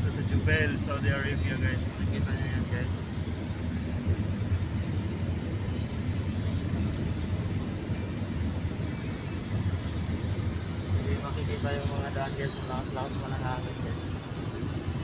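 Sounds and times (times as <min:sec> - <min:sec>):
strong wind hissing: 0:00.0 - 0:15.0
vehicle road and engine noise: 0:00.0 - 0:15.0.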